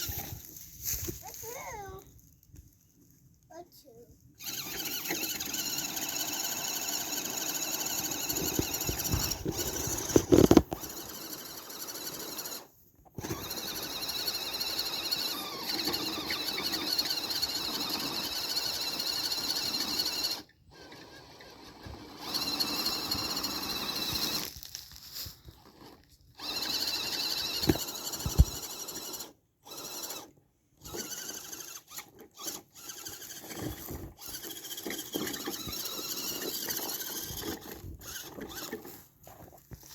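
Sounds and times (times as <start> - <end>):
electric motor and gears whining: 4.4 - 24.8, 25.7 - 39.9.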